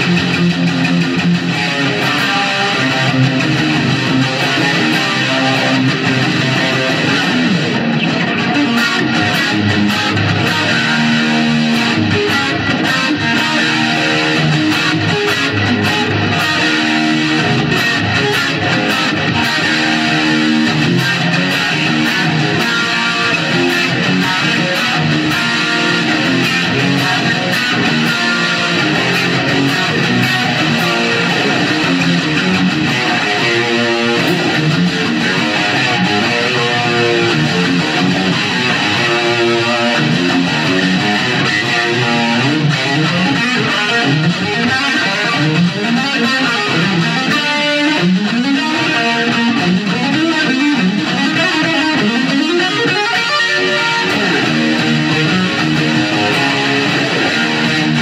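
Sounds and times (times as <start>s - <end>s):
high-gain electric guitar: 0.0s - 58.0s.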